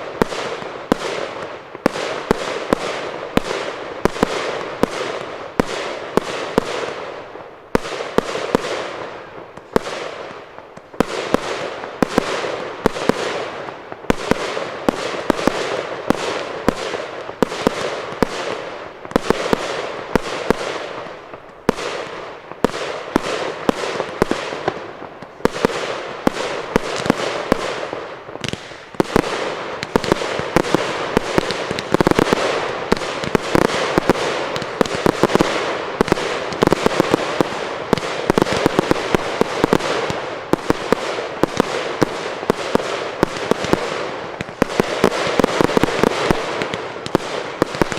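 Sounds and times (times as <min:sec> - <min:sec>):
fireworks bursting with bangs: 0:00.0 - 0:47.9
fireworks crackling: 0:00.0 - 0:47.9.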